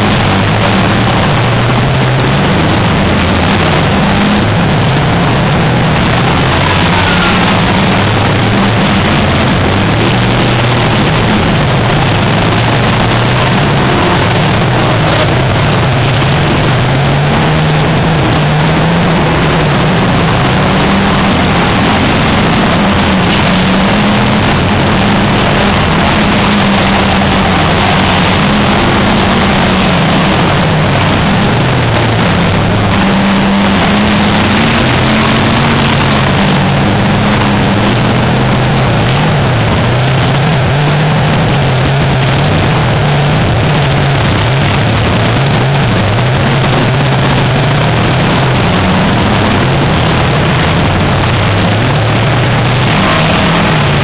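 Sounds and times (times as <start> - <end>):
steady rushing noise: 0.0 - 54.0
stock car engines racing: 0.0 - 54.0.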